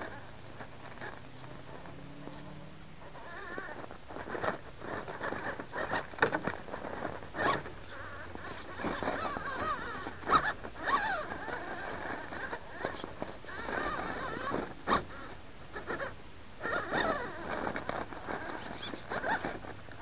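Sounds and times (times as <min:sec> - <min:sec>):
wavering motor whine: 0:00.0 - 0:20.0.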